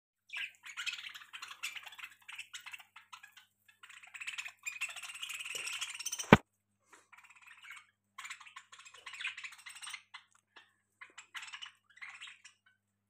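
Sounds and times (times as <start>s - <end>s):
budgerigars chattering: 0.3s - 6.4s, 7.1s - 12.8s.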